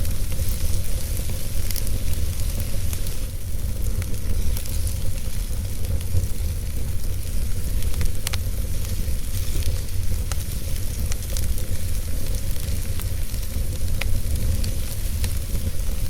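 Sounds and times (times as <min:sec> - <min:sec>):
fire crackles and pops: 0:00.0 - 0:16.0
fire rumbling and hissing: 0:00.0 - 0:16.0.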